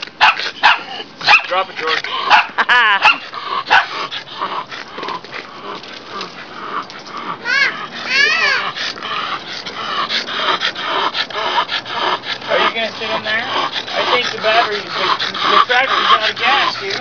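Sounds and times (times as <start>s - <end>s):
dog whining and yipping: 0.2s - 17.0s.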